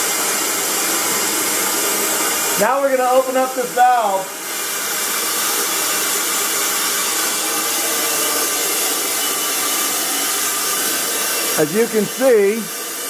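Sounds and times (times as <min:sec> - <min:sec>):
air compressor running: 0:00.0 - 0:13.0
vacuum pump hissing: 0:00.0 - 0:13.0.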